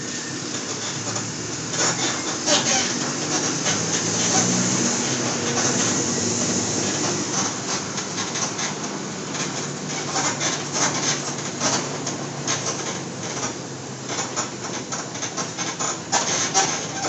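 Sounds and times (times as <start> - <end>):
bus diesel engine running: 0.0 - 17.0
bus body rattling and knocking: 0.5 - 17.0.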